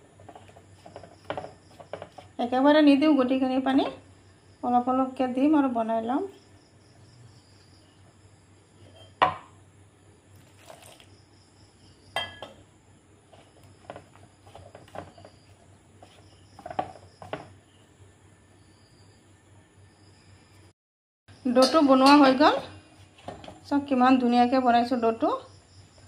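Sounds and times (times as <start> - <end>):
crickets chirping: 0.0 - 20.7, 21.3 - 26.0.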